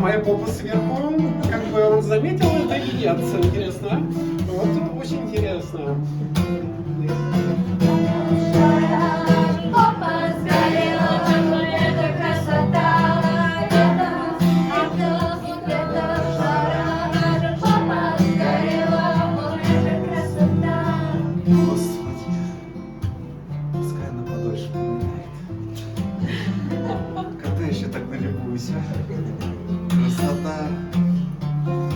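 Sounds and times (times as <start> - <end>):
acoustic guitar: 0.0 - 31.9.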